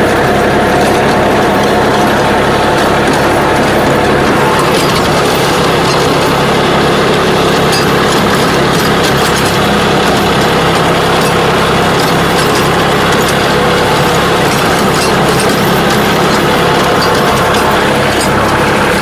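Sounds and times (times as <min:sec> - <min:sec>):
rotavator tilling rattle: 0:00.0 - 0:19.0
tractor diesel engine running: 0:00.0 - 0:19.0.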